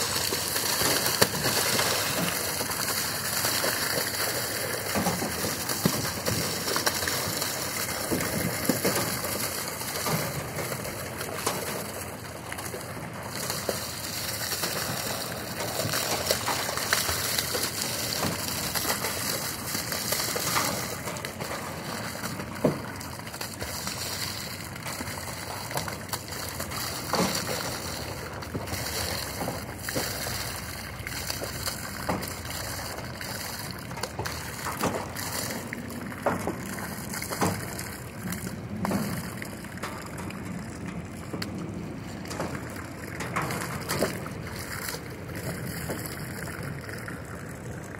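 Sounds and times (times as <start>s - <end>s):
fish splashing into water: 0.0s - 47.9s
water gushing from pipe: 0.0s - 47.9s.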